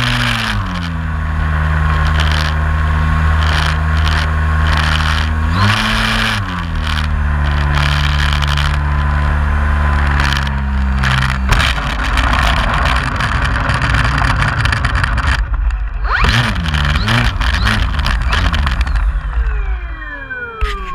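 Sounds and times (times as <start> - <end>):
electric motor whine: 0.0 - 20.9
wheels rumbling over ground: 0.0 - 20.9.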